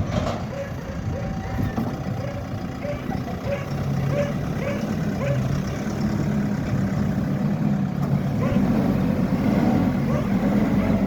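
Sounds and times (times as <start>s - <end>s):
backhoe diesel engine revving: 0.0s - 11.0s.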